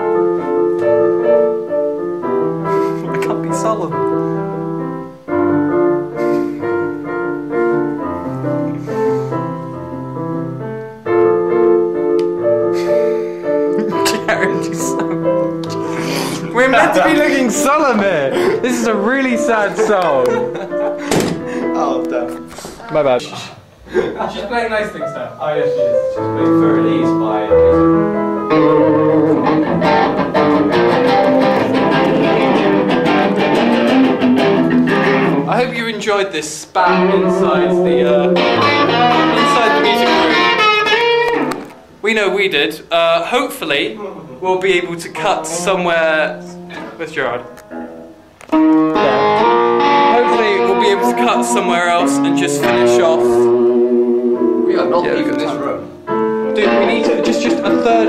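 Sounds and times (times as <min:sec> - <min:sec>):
piano playing slow sad chords: 0:00.0 - 0:22.5, 0:25.0 - 0:35.4, 0:36.8 - 0:41.5, 0:45.4 - 0:58.0
plucked guitar music: 0:00.0 - 0:23.2, 0:25.6 - 0:35.8, 0:36.8 - 0:42.0, 0:44.8 - 0:58.0.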